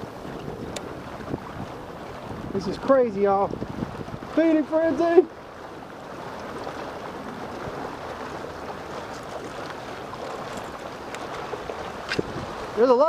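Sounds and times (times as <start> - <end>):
small splashes on sea surface: 0.0 - 13.0.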